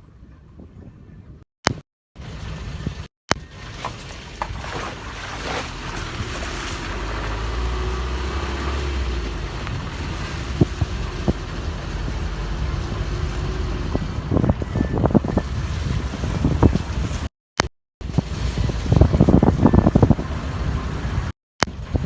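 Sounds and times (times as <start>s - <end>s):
vehicle engine and road rumble: 1.2s - 17.3s, 18.0s - 22.0s.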